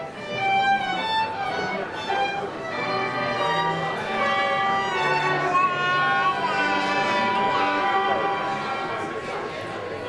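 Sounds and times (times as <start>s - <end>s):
violin melody: 0.0s - 10.0s.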